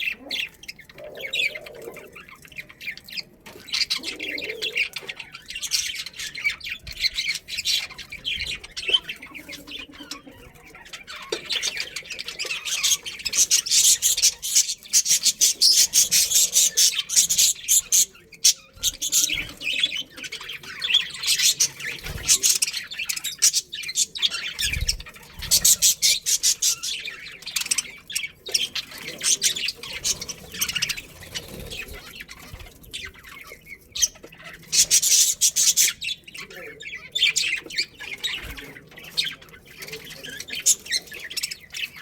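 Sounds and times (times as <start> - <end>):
budgerigars chattering: 0.0 - 42.0.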